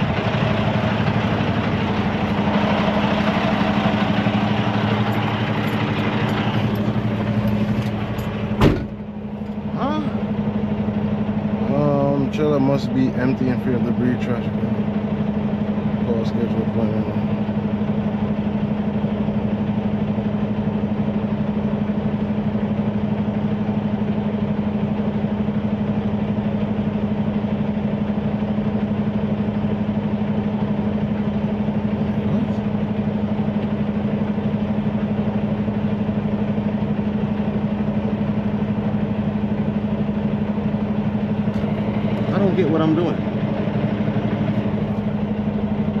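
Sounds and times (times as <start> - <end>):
truck diesel engine idling: 0.0 - 46.0.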